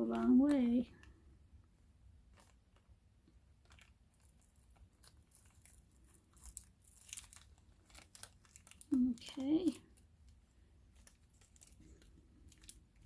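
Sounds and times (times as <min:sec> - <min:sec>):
plastic packaging crinkling: 0:02.2 - 0:13.0.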